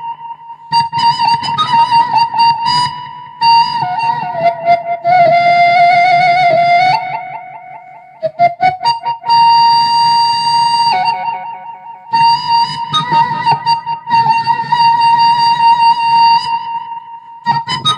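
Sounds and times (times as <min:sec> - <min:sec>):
bamboo flute melody: 0:00.0 - 0:17.9.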